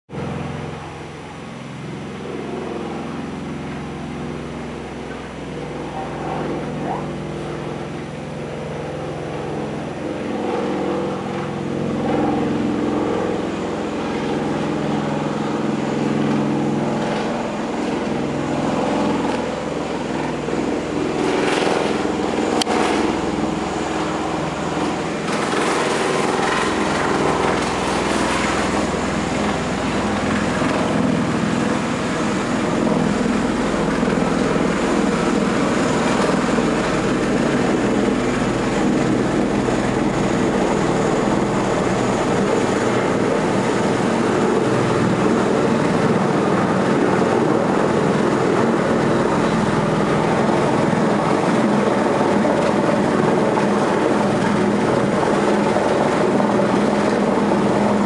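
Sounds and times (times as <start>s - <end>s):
aircraft rotors droning hum: 0.1s - 58.0s.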